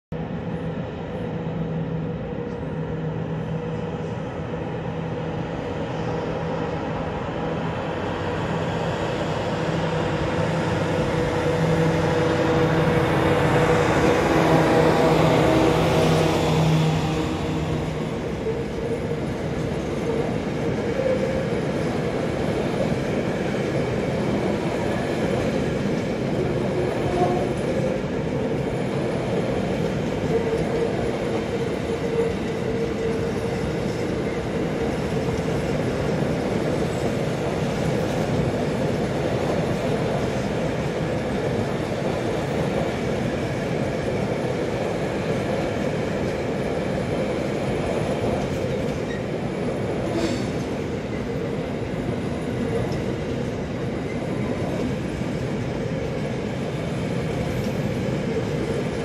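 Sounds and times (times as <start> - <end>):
diesel locomotive engine drone: 0.1 - 59.0.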